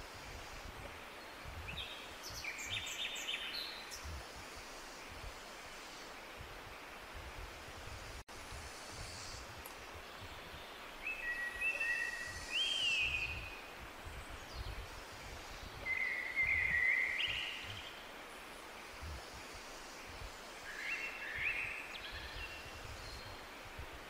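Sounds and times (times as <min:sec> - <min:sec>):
outdoor hiss: 0:00.0 - 0:24.0.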